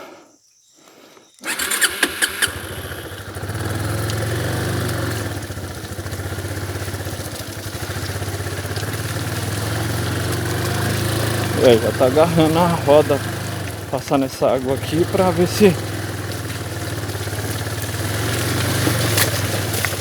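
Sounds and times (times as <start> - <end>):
motorcycle engine idling: 1.4 - 20.0.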